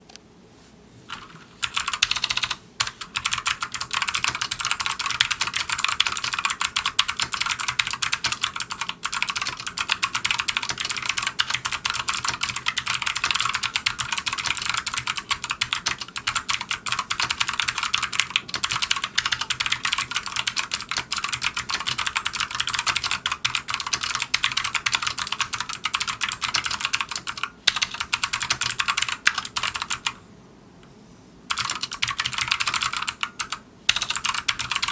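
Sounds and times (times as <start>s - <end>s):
fast keyboard typing clicks: 1.1s - 30.2s, 31.5s - 34.9s.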